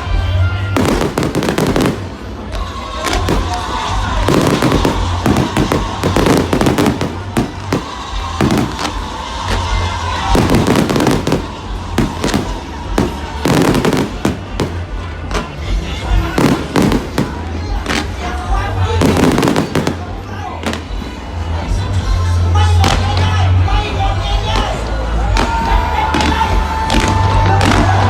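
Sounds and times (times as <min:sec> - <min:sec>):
fireworks bangs and crackling: 0:00.0 - 0:21.8, 0:24.5 - 0:28.0.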